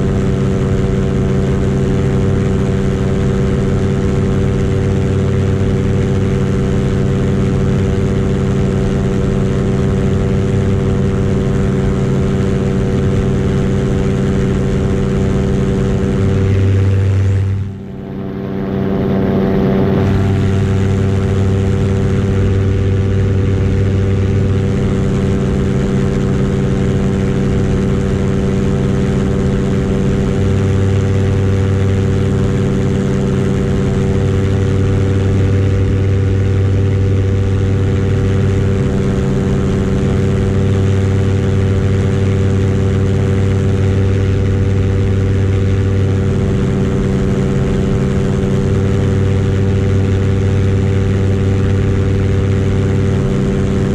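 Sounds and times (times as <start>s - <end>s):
paramotor engine droning: 0.0s - 53.9s.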